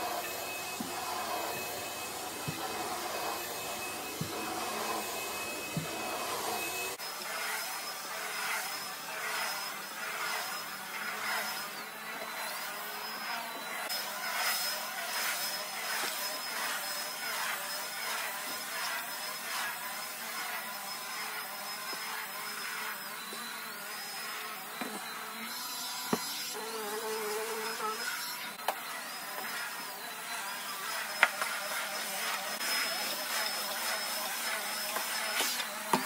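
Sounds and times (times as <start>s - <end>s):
stick vacuum whining: 0.0s - 16.8s, 20.4s - 26.7s, 27.7s - 36.0s.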